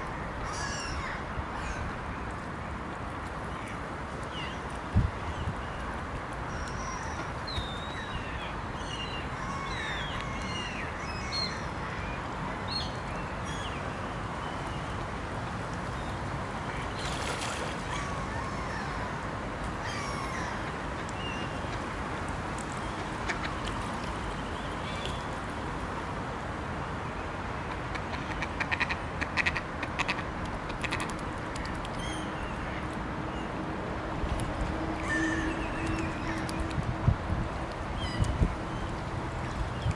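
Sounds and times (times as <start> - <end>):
steady background noise: 0.0 - 39.9.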